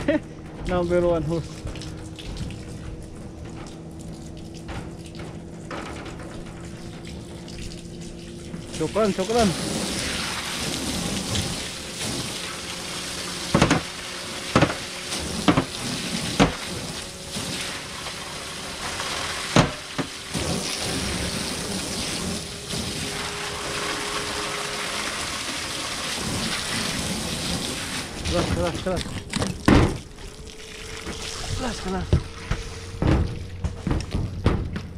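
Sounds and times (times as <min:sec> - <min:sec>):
hose water spattering on metal: 0:00.1 - 0:34.9.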